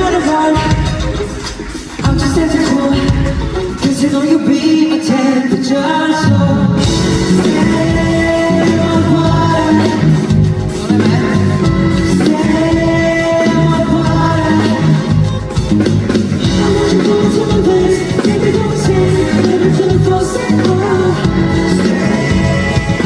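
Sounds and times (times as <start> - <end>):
man singing: 0.0 - 23.0
pop song over sound system: 0.0 - 23.0.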